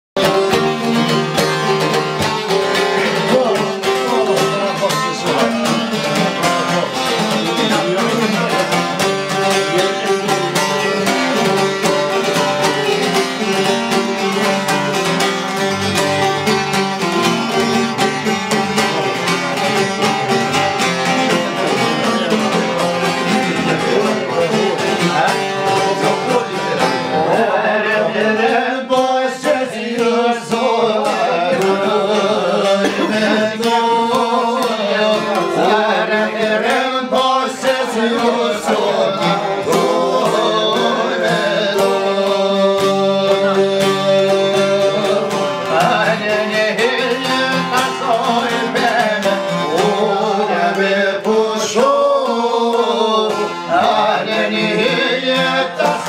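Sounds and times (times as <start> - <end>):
plucked lutes playing folk tune: 0.2 - 56.0.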